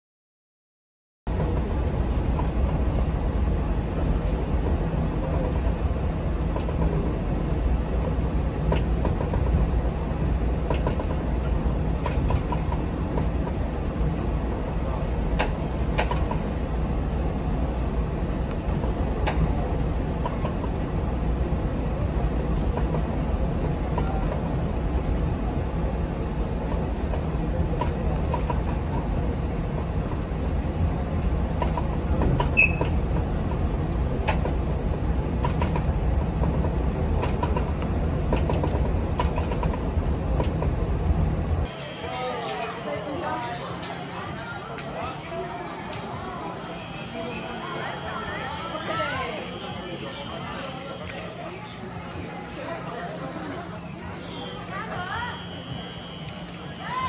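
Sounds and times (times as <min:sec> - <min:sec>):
railcar engine and wheels rumbling: 0:01.3 - 0:57.0.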